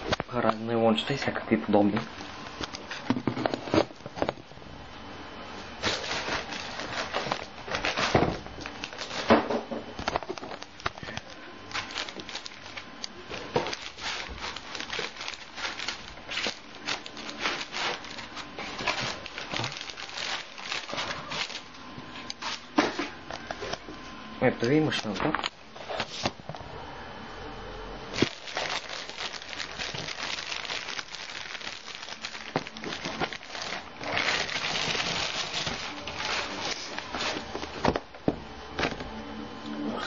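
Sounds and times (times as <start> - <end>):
plastic wrapping crinkling: 2.1 - 4.6, 5.7 - 23.8, 24.6 - 26.4, 28.1 - 38.0.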